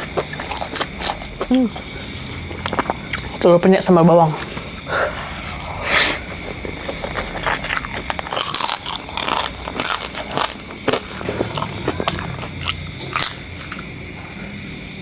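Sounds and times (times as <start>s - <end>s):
person chewing and biting: 0.0s - 3.5s, 4.2s - 14.0s.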